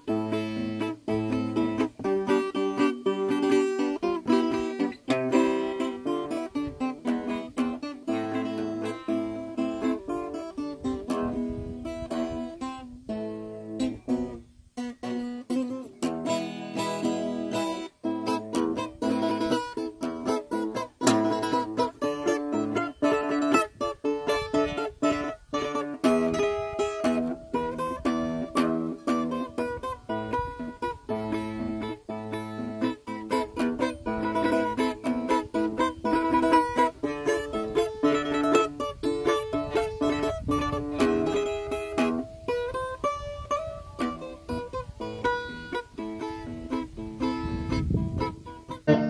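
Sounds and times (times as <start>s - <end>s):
plucked acoustic guitar melody: 0.0s - 49.0s.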